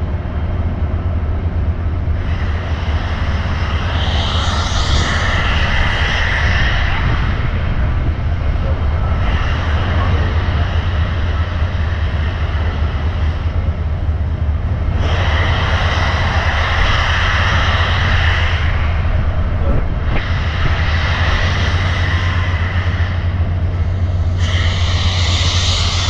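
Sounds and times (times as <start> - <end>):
moving train rumbling: 0.0 - 26.0.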